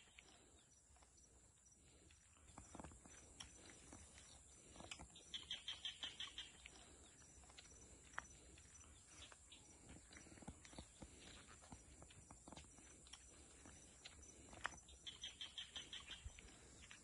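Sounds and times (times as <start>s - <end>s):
faint clicks of food handling: 0.0s - 17.0s
bird chirping: 2.4s - 12.2s, 12.8s - 17.0s.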